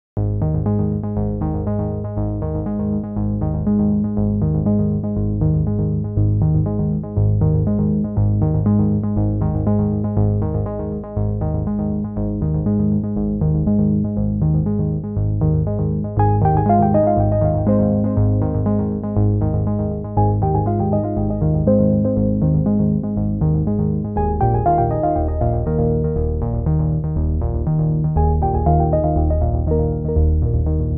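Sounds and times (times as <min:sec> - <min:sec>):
synthesizer music with strong bass: 0:00.2 - 0:30.9.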